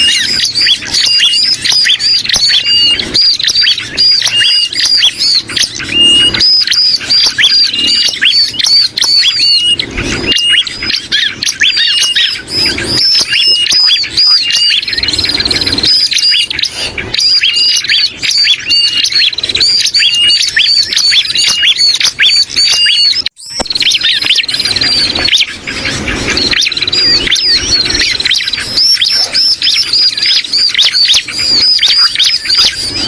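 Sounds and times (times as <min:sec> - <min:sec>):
fast buzzy bird trill: 0:00.0 - 0:33.0
rapid high bird chirps: 0:00.0 - 0:33.0.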